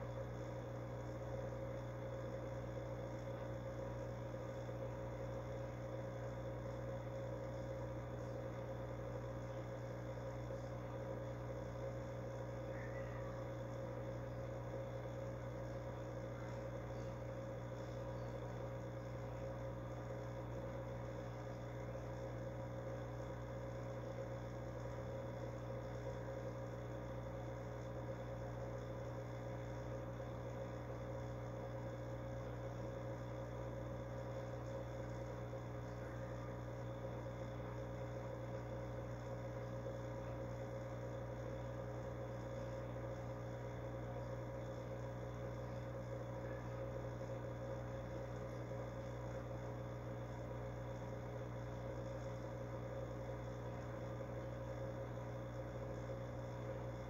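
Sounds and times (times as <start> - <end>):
fish tank equipment hum: 0.0 - 57.0.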